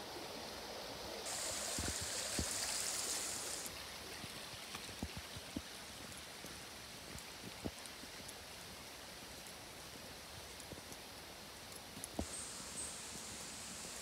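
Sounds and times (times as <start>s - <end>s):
stream running over stones: 0.0s - 14.0s.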